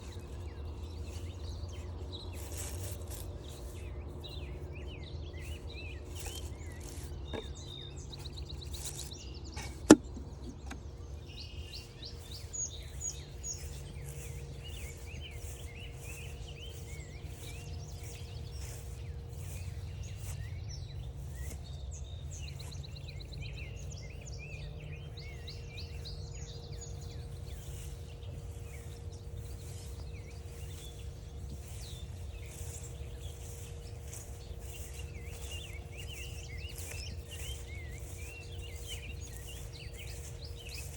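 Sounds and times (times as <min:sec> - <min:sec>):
songbirds chirping and trilling: 0:00.0 - 0:40.9
steady low rumble: 0:00.0 - 0:40.9.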